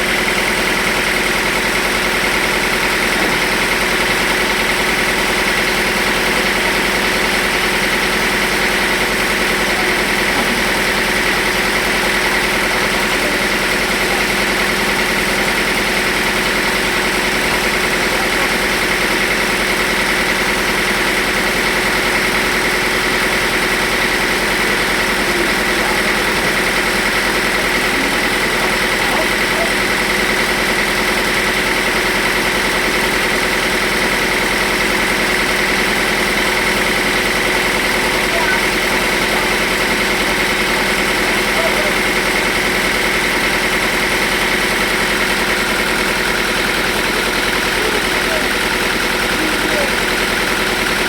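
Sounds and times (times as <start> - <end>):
sawmill machinery drone with high whine: 0.0 - 51.0.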